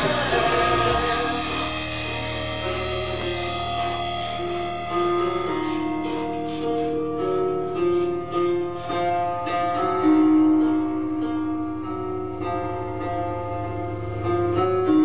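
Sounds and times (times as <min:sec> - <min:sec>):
instrumental music with held notes: 0:00.0 - 0:15.0.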